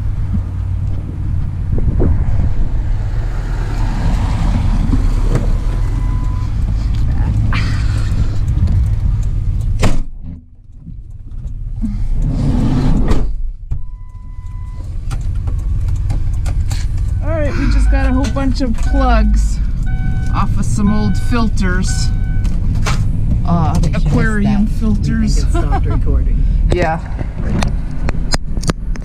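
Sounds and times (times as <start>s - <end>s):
passing vehicle noise: 0.0s - 10.4s, 11.0s - 29.0s
vehicle engine rumbling: 0.0s - 29.0s.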